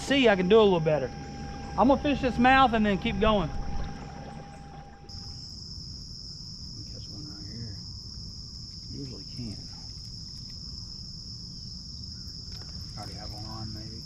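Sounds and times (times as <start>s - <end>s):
insects chorus drone: 0.0s - 14.0s.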